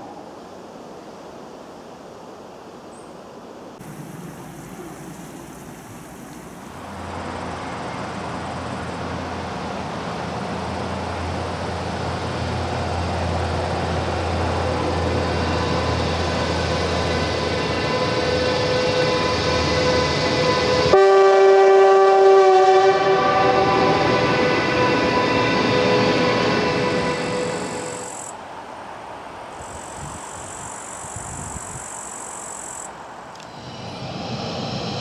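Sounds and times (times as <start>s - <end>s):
electric locomotive approaching: 3.7s - 35.0s.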